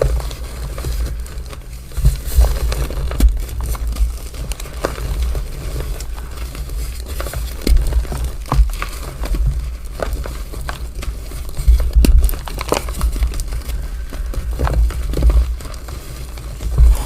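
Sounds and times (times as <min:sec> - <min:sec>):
chalk crunching and crumbling: 0:00.0 - 0:17.0.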